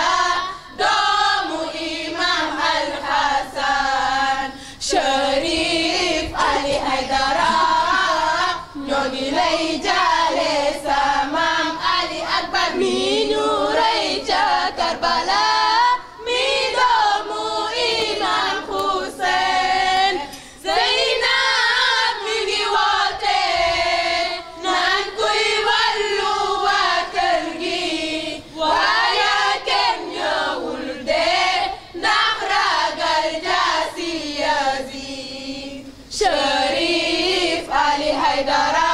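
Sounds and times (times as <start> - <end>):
girls and women chanting in unison: 0.0 - 38.9.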